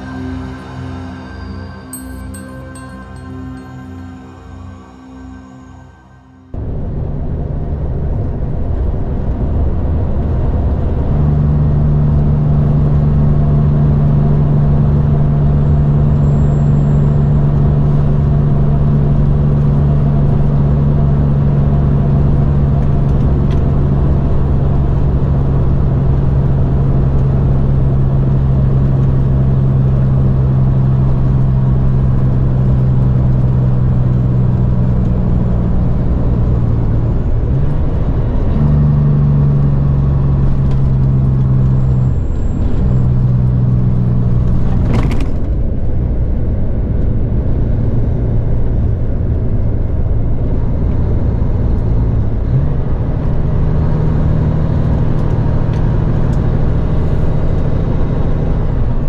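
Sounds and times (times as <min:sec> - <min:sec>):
diesel engine droning: 0:00.0 - 0:59.0
low hum: 0:00.0 - 0:59.0
tyre and road noise: 0:06.5 - 0:59.0.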